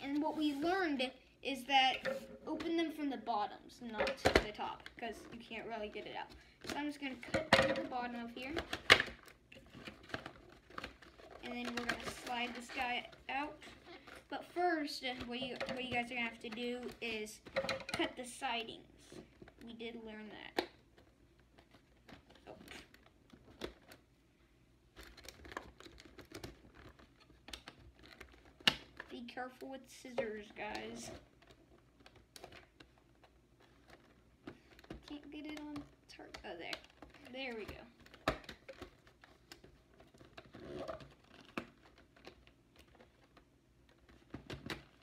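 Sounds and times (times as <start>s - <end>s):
cardboard crinkling: 7.9s - 24.2s, 24.9s - 45.0s.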